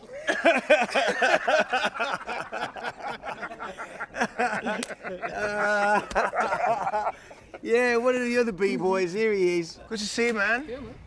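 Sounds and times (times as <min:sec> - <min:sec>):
men laughing and calling out: 0:00.0 - 0:10.1.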